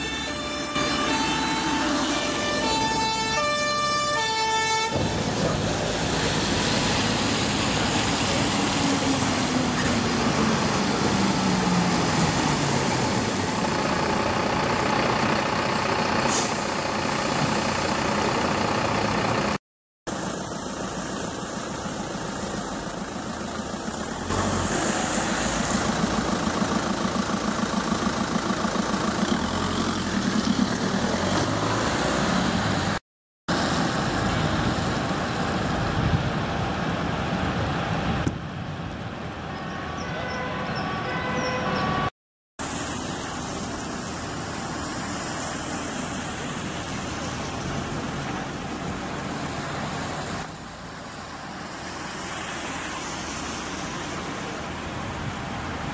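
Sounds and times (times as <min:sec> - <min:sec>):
fire engines running: 0:00.0 - 0:55.9.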